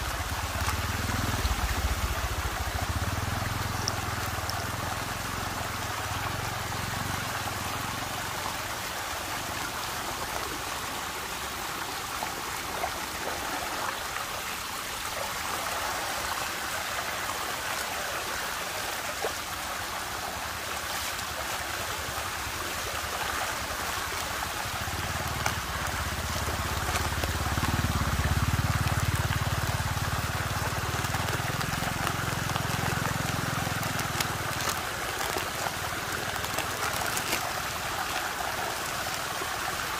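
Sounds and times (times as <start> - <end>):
water rushing in a whirlpool: 0.0 - 39.9.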